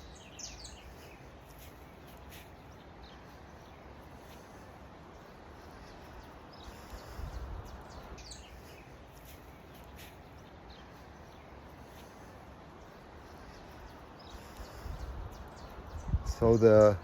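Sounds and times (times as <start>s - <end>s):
faint bird chirps: 0.0s - 17.0s
steady background hiss: 0.0s - 17.0s.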